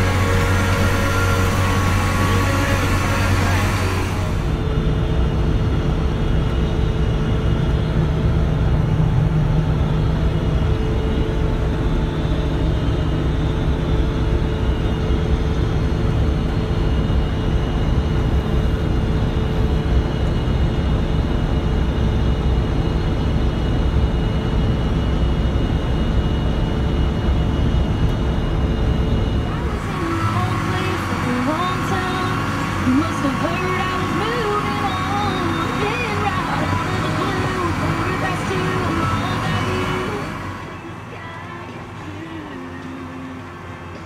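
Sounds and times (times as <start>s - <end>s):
combine harvester drone: 0.0s - 44.0s.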